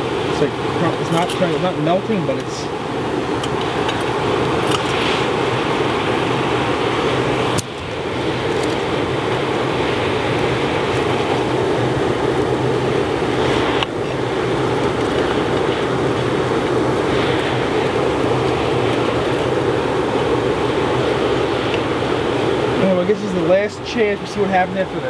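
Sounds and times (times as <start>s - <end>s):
blower fan rushing air: 0.0s - 25.0s
low motor hum: 0.0s - 25.0s.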